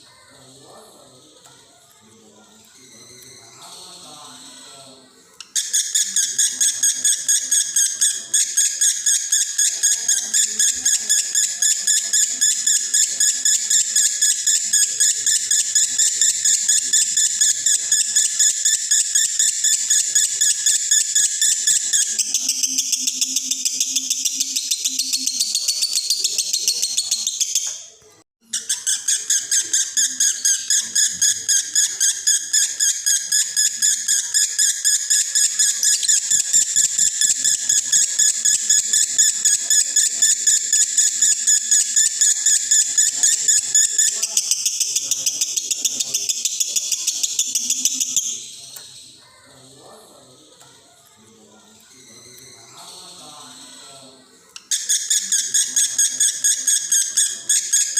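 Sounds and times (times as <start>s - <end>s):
lovebird chattering high chirps: 5.4s - 49.6s, 54.6s - 57.9s.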